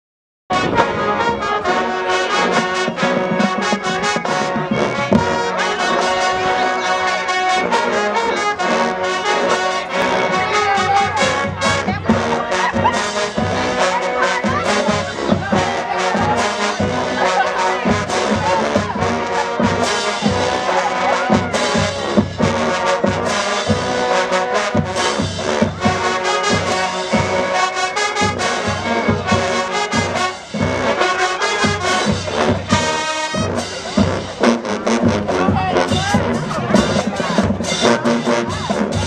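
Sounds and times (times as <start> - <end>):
marching band playing: 0.5 - 39.0.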